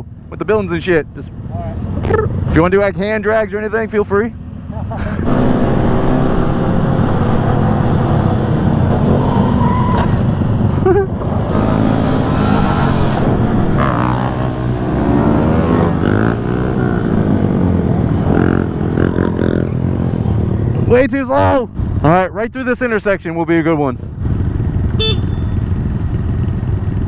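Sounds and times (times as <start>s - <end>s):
low wind rumble: 0.0s - 27.0s
motorcycle engines revving: 0.0s - 27.0s.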